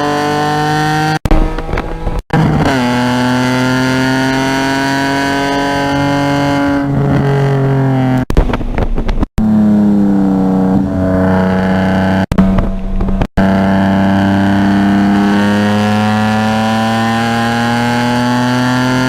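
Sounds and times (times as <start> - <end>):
race car engine under load: 0.0 - 19.0.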